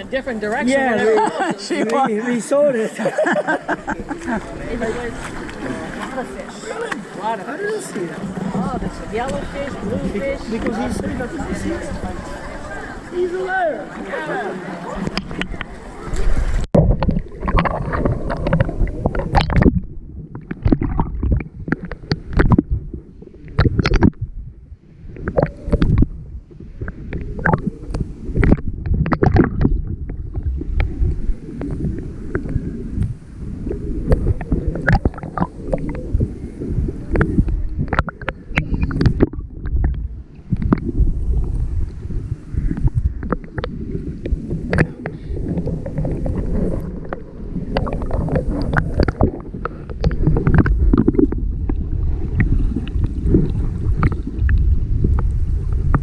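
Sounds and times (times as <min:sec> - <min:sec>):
water sloshing and gurgling: 0:02.9 - 0:56.0.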